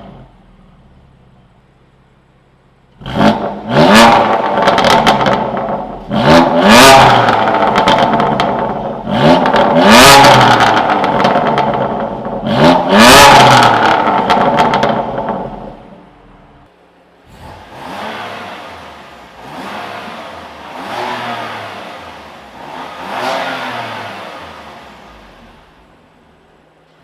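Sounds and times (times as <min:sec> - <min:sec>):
car engine revving: 0:00.0 - 0:26.6
exhaust crackles: 0:00.0 - 0:27.0.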